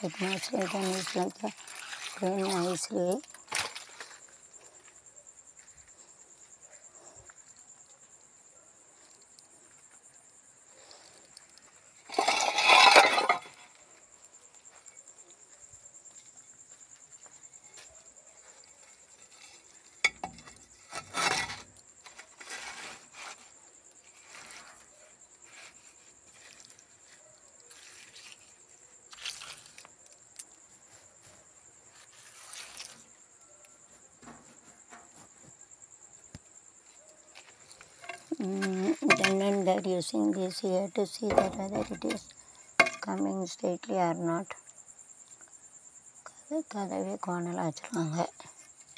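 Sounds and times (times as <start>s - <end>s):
night insects trilling: 0.0s - 48.9s.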